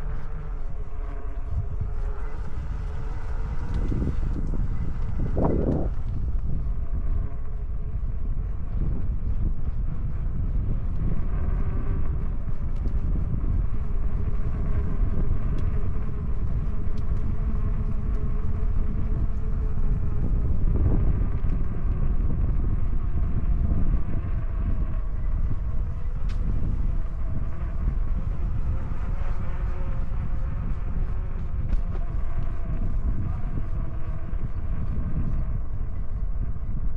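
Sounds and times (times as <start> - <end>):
electric motor whine: 0.0 - 36.9
wind buffeting microphone: 0.0 - 36.9.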